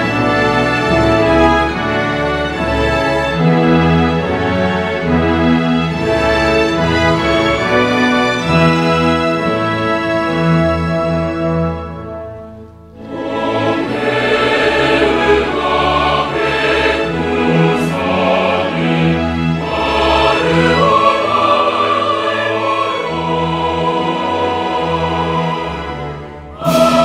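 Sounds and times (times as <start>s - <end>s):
choir with orchestra: 0.0s - 27.0s.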